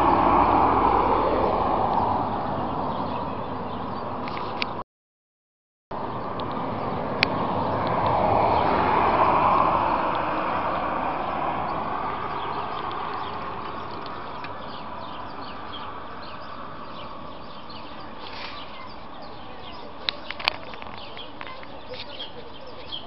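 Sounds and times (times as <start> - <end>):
small birds chirping: 0.0 - 4.8, 6.0 - 23.0.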